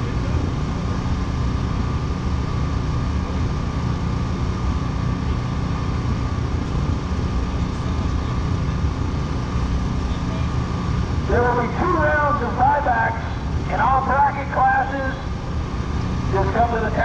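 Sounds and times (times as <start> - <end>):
car engine running: 0.0 - 17.0
faint steady whine: 0.0 - 17.0.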